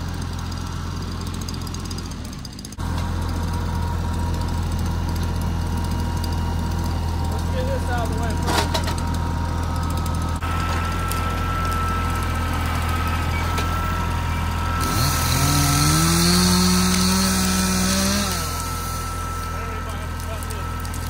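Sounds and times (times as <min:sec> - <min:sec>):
tractor diesel engine revving: 0:00.0 - 0:21.0.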